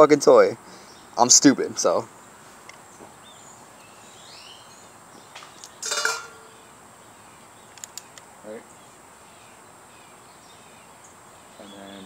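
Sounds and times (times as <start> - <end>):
faint bird chirps: 2.1 - 12.0.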